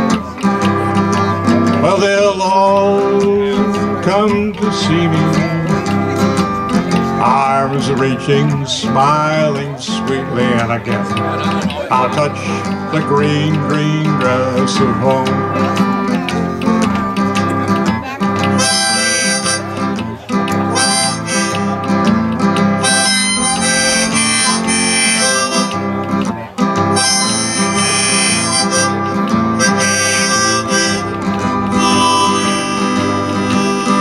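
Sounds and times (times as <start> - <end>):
harmonica melody: 0.0 - 34.0
strummed acoustic guitar: 0.0 - 34.0.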